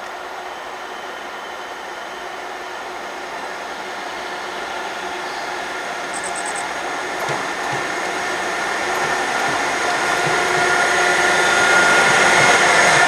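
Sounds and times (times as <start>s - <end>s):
electric locomotive hum: 0.0s - 13.0s
wheel and rail noise: 0.0s - 13.0s.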